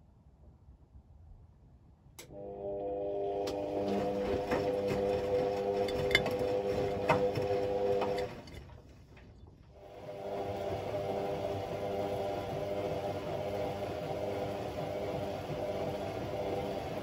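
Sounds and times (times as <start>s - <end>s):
washing machine motor whine: 2.2s - 8.8s, 9.7s - 17.0s.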